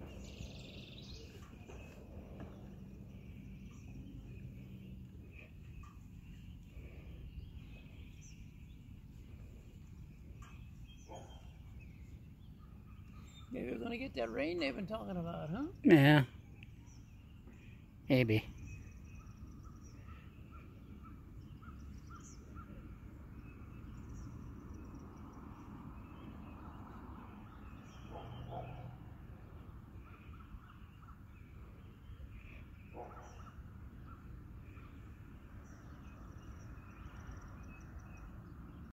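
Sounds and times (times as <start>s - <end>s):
birds chirping: 0.0s - 38.9s
low bird calls: 0.0s - 38.9s.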